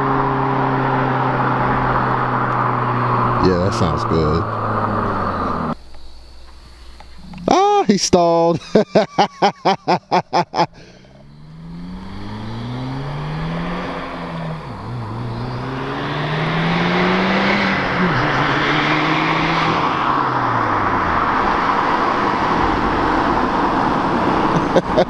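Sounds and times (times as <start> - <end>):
car engine accelerating hard: 0.0 - 5.8, 10.3 - 25.0.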